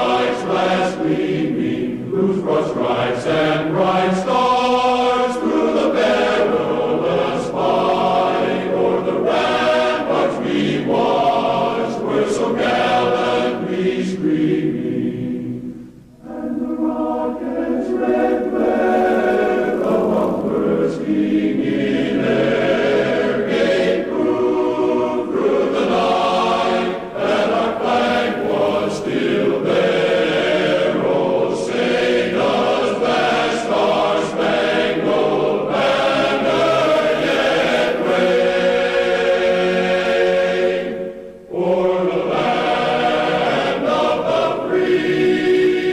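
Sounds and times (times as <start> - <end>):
choir singing sustained notes: 0.0 - 45.9.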